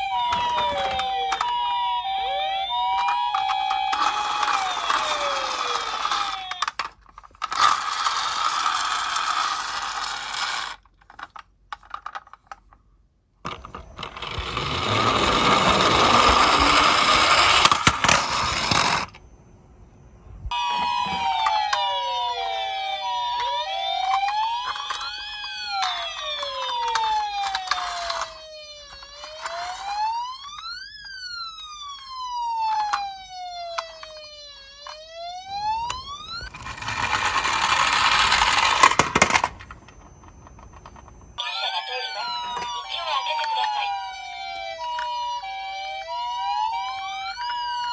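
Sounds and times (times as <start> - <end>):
electronic toy sirens wailing: 0.0 - 11.3, 13.5 - 19.2, 20.5 - 47.9
toy cars rolling with rattle: 0.0 - 12.8, 13.5 - 19.2, 20.6 - 35.0, 35.9 - 41.3, 41.9 - 45.4, 46.4 - 47.9.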